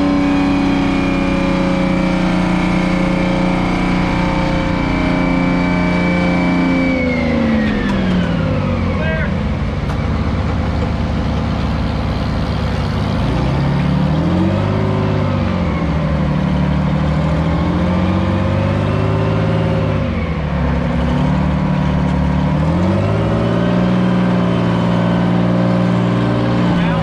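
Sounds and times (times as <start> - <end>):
diesel truck engine revving: 0.0 - 27.0.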